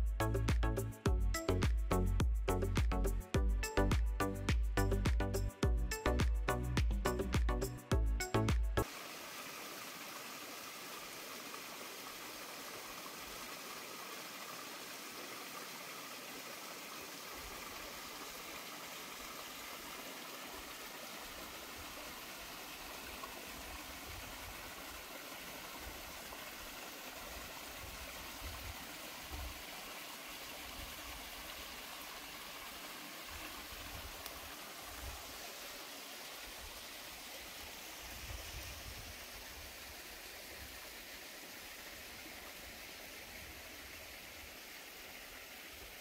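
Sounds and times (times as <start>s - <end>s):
stream splashing over rocks: 8.8s - 46.0s.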